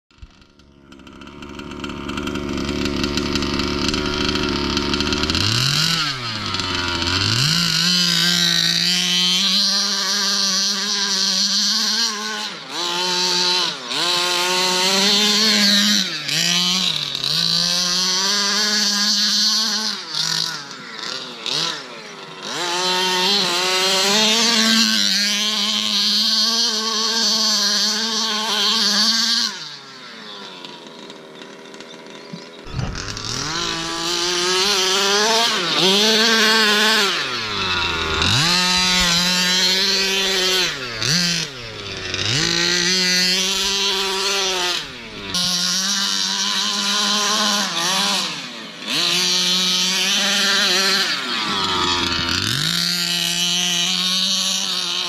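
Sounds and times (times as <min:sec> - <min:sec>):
two-stroke engine revving: 0:00.1 - 0:55.0.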